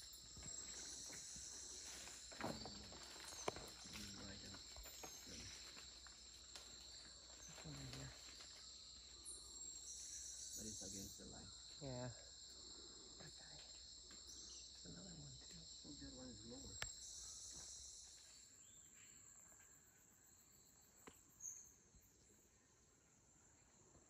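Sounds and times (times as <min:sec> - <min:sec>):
high-pitched insect drone: 0:00.0 - 0:22.2.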